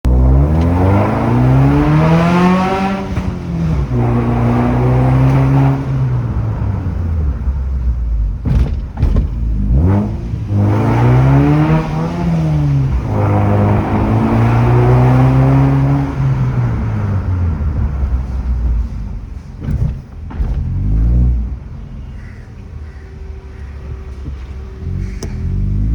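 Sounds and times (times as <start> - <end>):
car engine revving: 0.1 - 22.2, 22.9 - 25.9.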